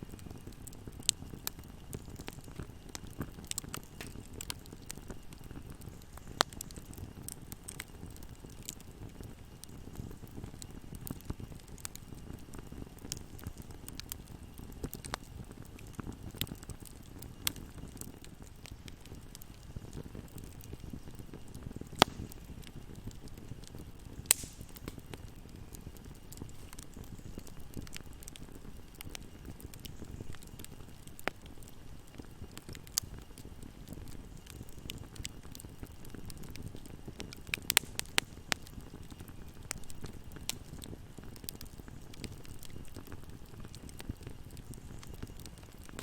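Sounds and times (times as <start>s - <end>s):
fire flames rumbling: 0.0s - 46.0s
wood crackling and popping: 0.0s - 46.0s.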